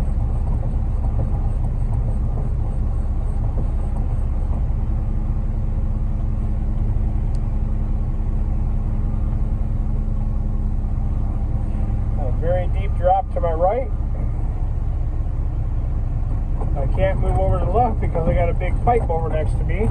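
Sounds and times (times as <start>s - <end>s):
diesel engine rumbling: 0.0s - 19.9s.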